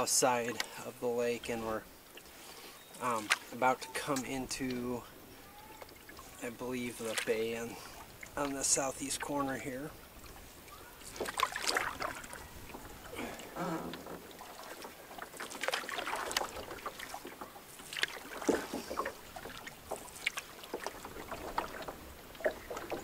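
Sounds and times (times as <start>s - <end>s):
water dripping off paddle: 0.0s - 5.0s, 5.6s - 23.0s
wooden paddle strokes in water: 0.0s - 23.0s.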